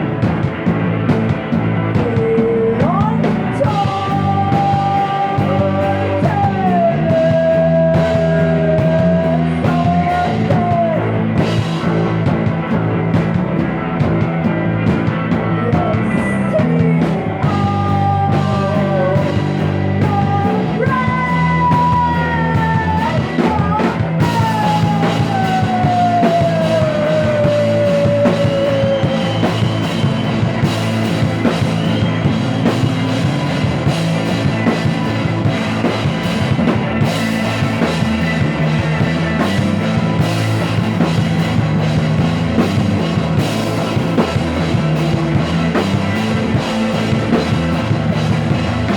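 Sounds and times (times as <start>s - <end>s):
rock music with drum kit: 0.0s - 48.9s.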